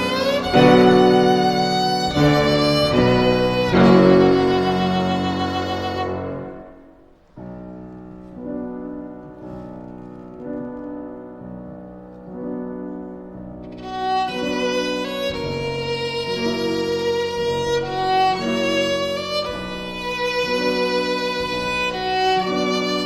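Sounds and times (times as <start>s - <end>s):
violin with piano accompaniment: 0.0s - 7.2s, 8.2s - 23.0s.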